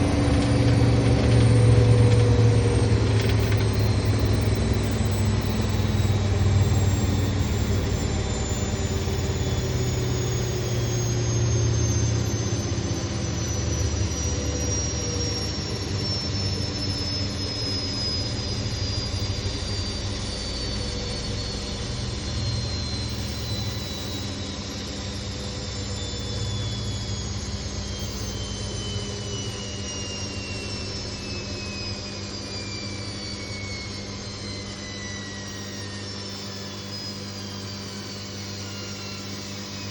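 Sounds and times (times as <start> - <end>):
low hum: 0.0 - 39.9
washing machine motor whine: 0.0 - 39.9.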